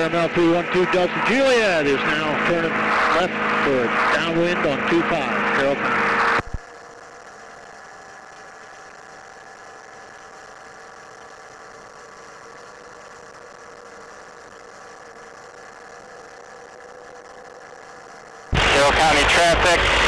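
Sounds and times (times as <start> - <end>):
ultralight engine drone: 0.0 - 20.0.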